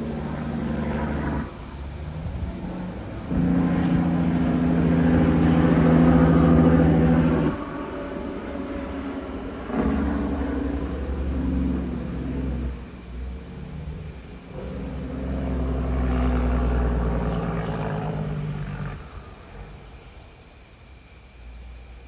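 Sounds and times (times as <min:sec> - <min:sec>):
vehicle passing by: 0:00.0 - 0:20.2
truck engine drone and tyre noise: 0:00.0 - 0:22.0.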